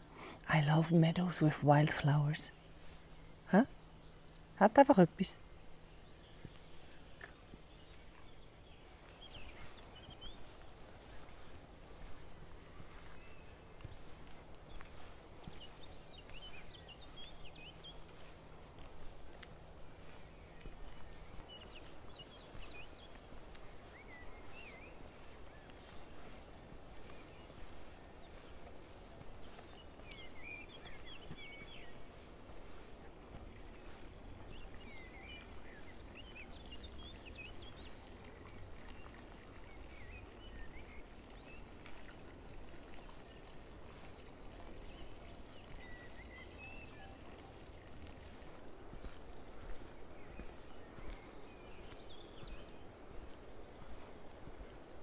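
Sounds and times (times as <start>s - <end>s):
faint low outdoor rumble: 0.0s - 55.0s
songbirds chirping: 0.0s - 55.0s.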